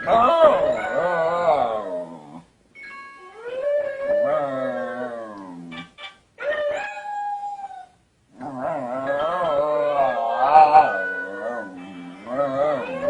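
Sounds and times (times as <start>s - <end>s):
dogs howling: 0.0s - 2.4s, 3.4s - 5.8s, 6.4s - 13.0s.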